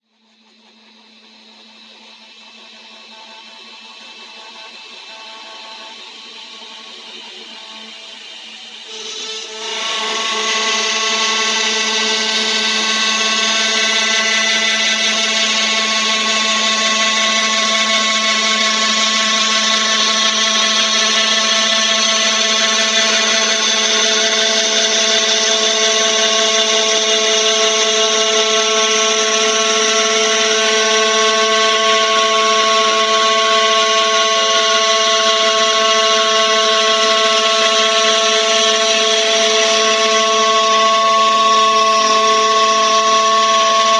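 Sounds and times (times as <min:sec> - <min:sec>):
router spindle motor whine: 0:00.2 - 0:43.9.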